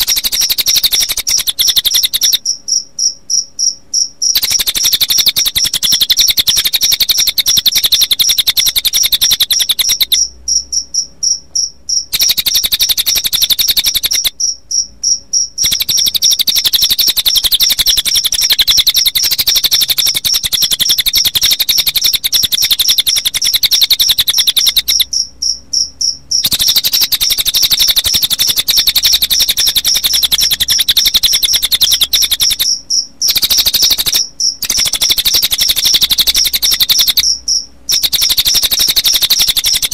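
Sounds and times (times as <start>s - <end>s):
bird calls: 0.0s - 10.9s, 11.6s - 39.9s
crickets chirping: 0.0s - 39.9s.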